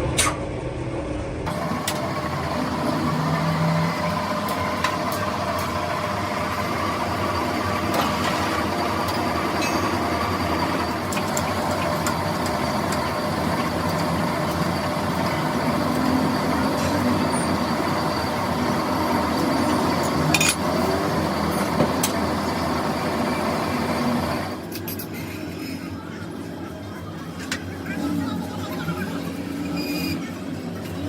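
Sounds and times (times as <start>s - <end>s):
workshop machine running: 0.0s - 31.0s.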